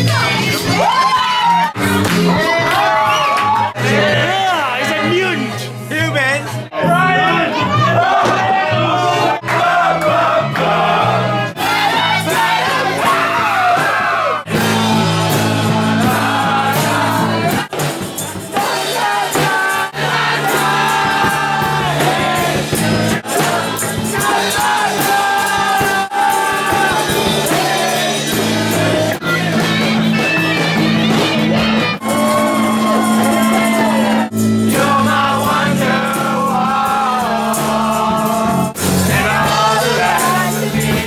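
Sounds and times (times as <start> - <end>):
group of voices singing: 0.0 - 41.0
electric keyboard chords: 1.5 - 41.0.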